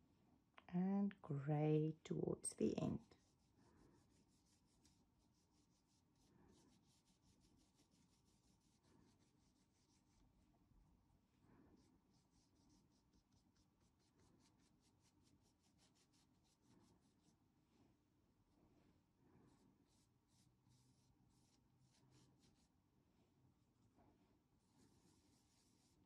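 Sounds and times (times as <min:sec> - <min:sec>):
paintbrush dabbing on fabric: 0:02.2 - 0:26.0.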